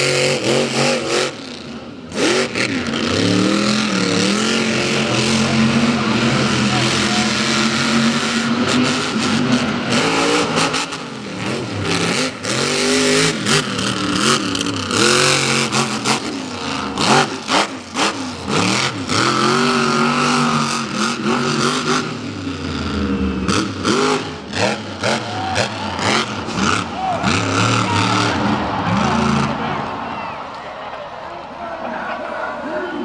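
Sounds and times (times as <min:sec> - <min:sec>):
monster truck engine revving: 0:00.0 - 0:30.1.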